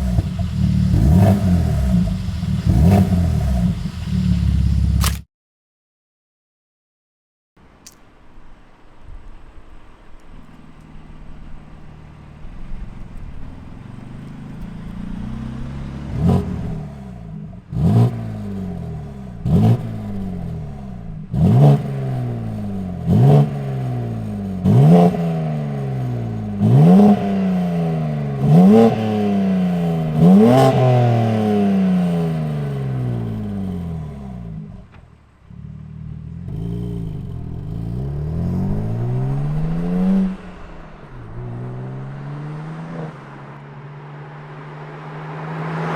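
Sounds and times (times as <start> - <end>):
car engine revving through exhaust: 0.0 - 5.0, 11.1 - 45.9.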